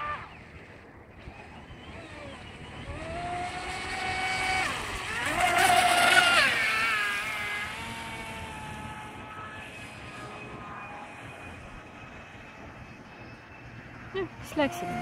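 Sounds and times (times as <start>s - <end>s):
speedboat motor whining: 0.0s - 15.0s.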